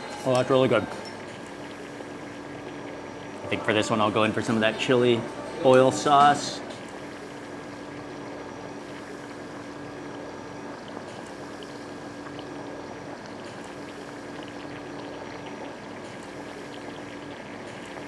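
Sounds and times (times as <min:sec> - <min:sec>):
broth boiling and bubbling: 0:00.0 - 0:18.0.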